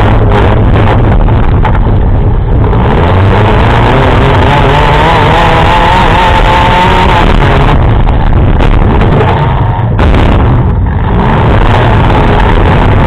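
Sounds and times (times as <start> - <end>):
car engine running hard: 0.0 - 13.0
wavering high engine whine: 0.0 - 13.0.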